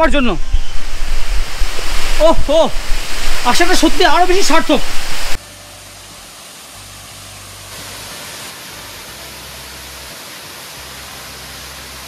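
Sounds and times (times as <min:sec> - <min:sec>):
waterfall rushing onto rock: 0:00.2 - 0:05.4, 0:06.3 - 0:12.0.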